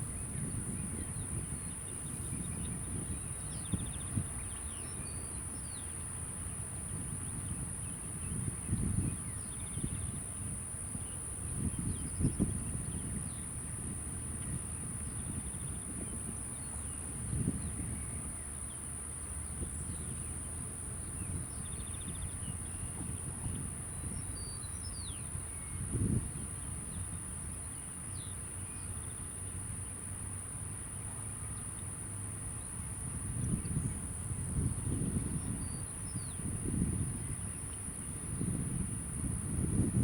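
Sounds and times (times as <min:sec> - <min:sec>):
insects buzzing: 0:00.0 - 0:40.0
wind rumble on microphone: 0:00.0 - 0:40.0.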